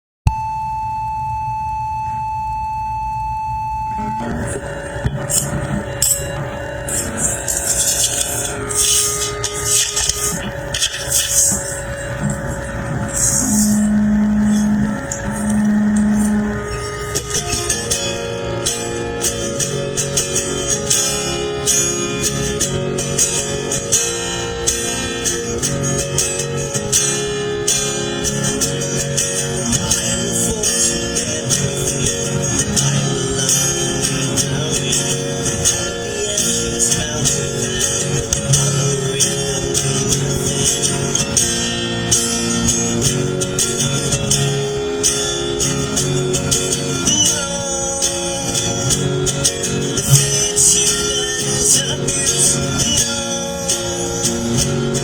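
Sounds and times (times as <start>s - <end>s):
instrumental music with beat: 4.4s - 55.0s.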